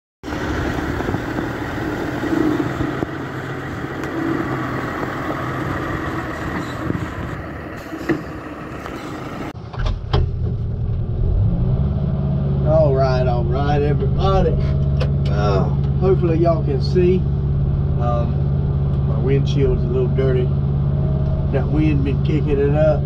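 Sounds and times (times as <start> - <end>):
diesel truck engine running: 0.2 - 23.0
loader engine hum from cab: 0.2 - 23.0.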